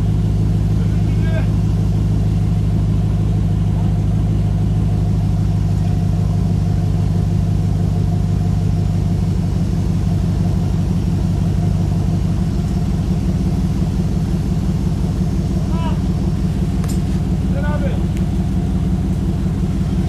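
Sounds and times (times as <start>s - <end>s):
truck engine running at low revs: 0.0s - 20.0s.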